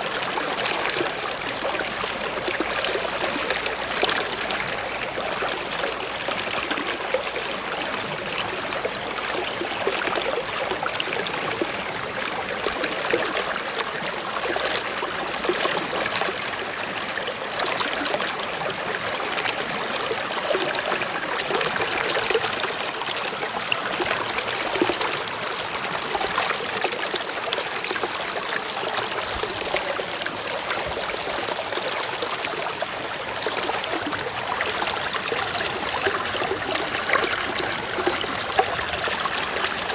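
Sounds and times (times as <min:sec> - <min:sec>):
stream water flowing over stones: 0:00.0 - 0:39.9.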